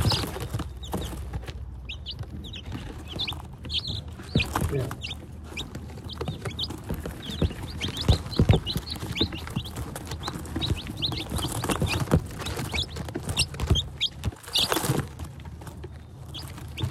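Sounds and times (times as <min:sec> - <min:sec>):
chicks bumping and scratching: 0:00.0 - 0:16.9
chicks peeping: 0:00.0 - 0:16.9.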